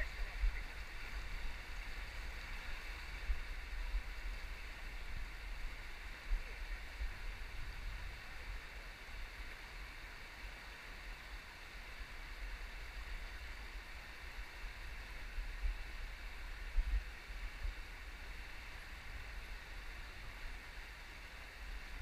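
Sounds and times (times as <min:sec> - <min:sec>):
wind rumbling on microphone: 0:00.0 - 0:10.1, 0:11.0 - 0:22.0
river rapids rushing over rocks: 0:00.0 - 0:22.0.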